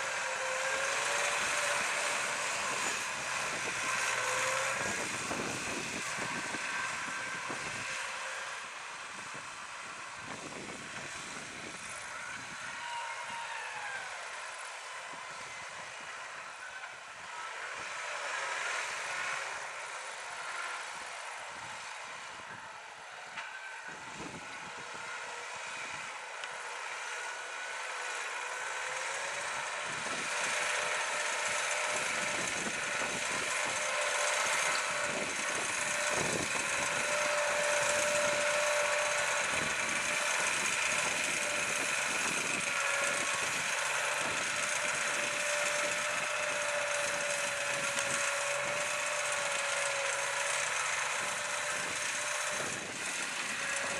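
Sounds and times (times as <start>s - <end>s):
tractor diesel engine under load: 0.0s - 12.8s, 13.5s - 53.9s
steady whine: 0.0s - 17.9s, 19.6s - 53.9s.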